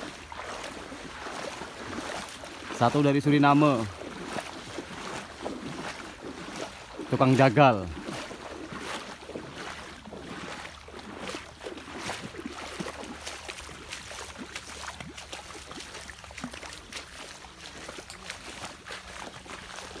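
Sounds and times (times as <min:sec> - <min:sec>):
feet wading through shallow water: 0:00.0 - 0:20.0.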